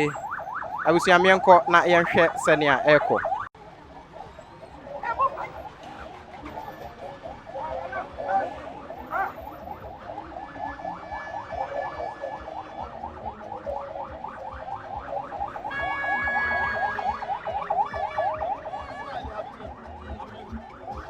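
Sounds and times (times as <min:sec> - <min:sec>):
electronic siren yelping: 0:00.0 - 0:21.0.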